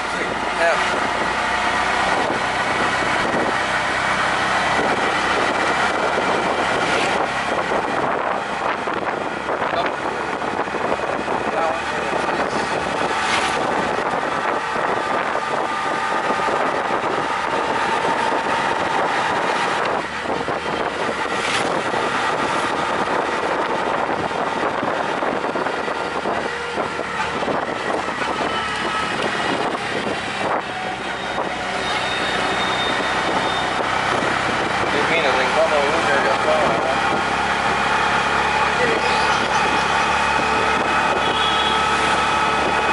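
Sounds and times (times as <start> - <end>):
auto-rickshaw engine running: 0.0 - 42.9
road and traffic noise: 0.0 - 42.9.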